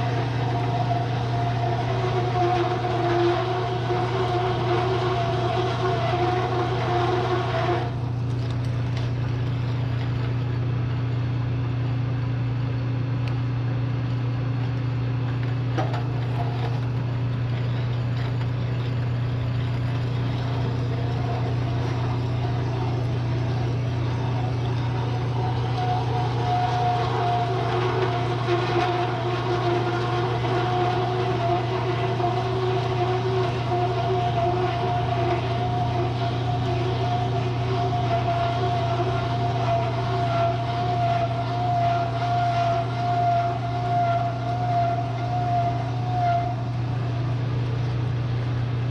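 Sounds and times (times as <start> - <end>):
hole saw cutting whine: 0.0 - 10.5, 15.8 - 48.9
milling machine motor hum: 0.0 - 12.6, 13.2 - 48.9.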